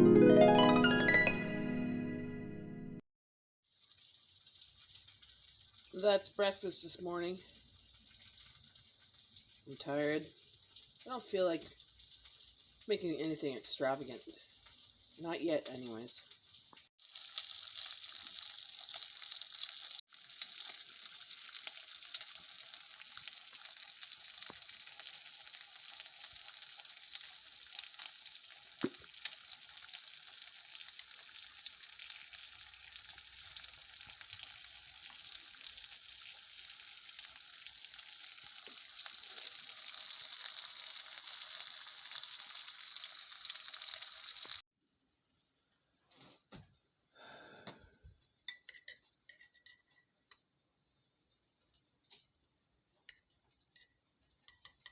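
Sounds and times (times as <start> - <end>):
food sizzling in a pan: 3.6 - 44.6, 46.4 - 54.9.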